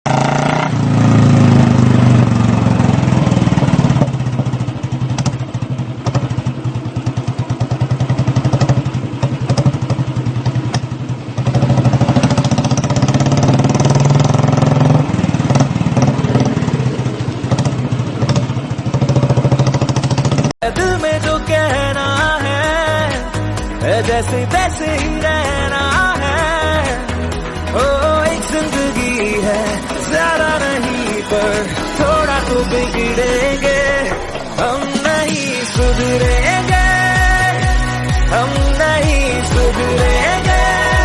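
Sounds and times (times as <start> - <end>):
motorcycle engine running: 0.1 - 41.0.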